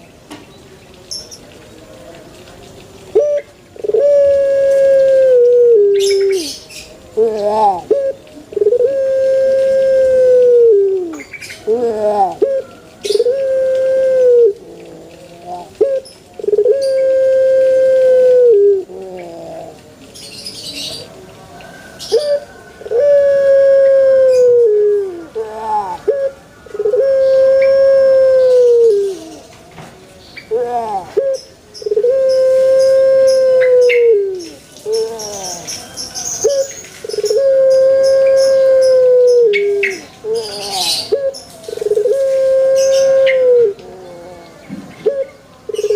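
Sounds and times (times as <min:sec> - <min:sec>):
dove cooing: 0:03.1 - 0:20.0, 0:21.8 - 0:29.5, 0:30.5 - 0:35.8, 0:36.4 - 0:45.9.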